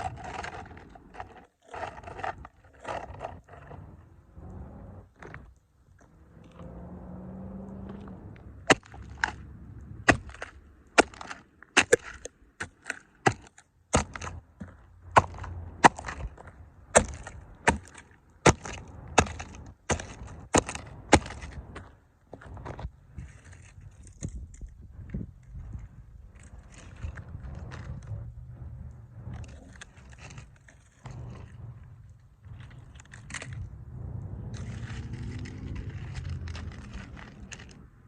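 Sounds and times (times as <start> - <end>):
plastic toys cracking underfoot: 0.0 - 4.1, 7.8 - 33.8, 34.4 - 38.0.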